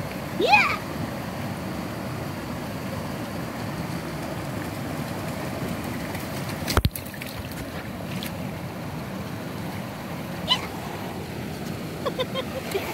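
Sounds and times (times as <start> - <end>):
stream running over rocks: 0.0 - 12.9.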